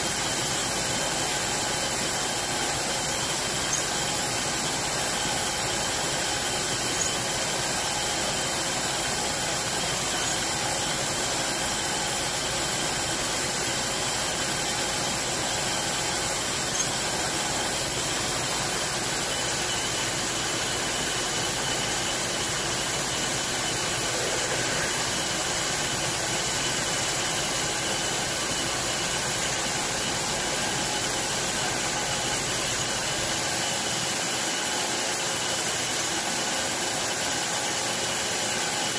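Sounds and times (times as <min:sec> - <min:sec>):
coolant spray hissing: 0:00.0 - 0:34.0
milling machine spindle whine: 0:00.0 - 0:38.9.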